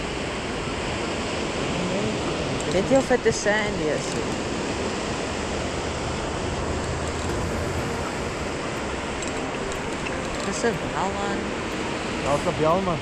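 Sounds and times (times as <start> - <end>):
surf breaking on sandy beach: 0.0 - 13.0.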